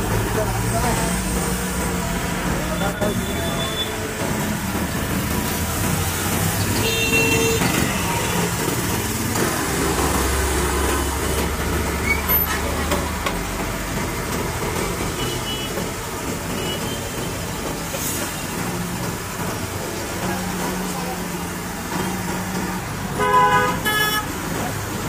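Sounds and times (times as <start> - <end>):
excavator diesel engine running: 0.0 - 25.0
road traffic noise: 0.0 - 25.0.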